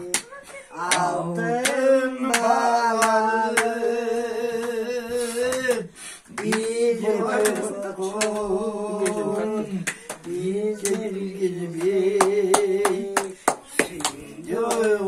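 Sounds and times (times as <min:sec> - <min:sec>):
hand clapping: 0:00.0 - 0:15.0
women singing together: 0:00.0 - 0:15.0.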